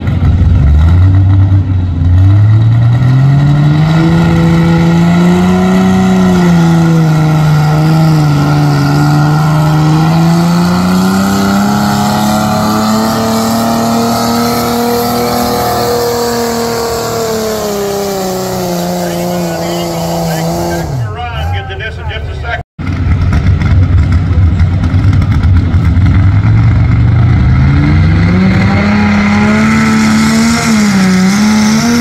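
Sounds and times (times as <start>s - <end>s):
tractor engine under full power: 0.0s - 32.0s.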